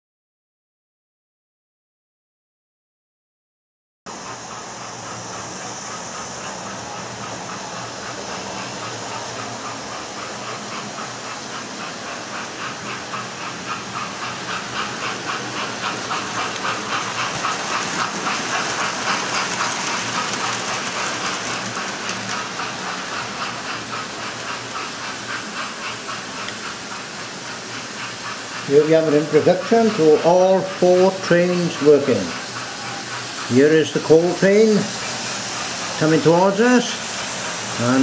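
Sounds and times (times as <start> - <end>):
model steam locomotive chuffing: 4.1 - 38.0.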